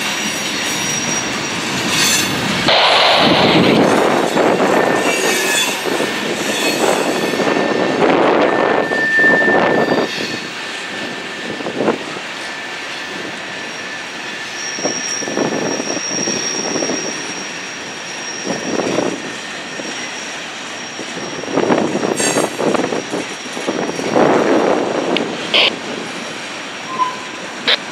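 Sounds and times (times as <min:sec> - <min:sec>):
freight train wheels rumbling on rails: 0:00.0 - 0:27.9
high steady squeal: 0:00.3 - 0:24.2, 0:26.8 - 0:27.9.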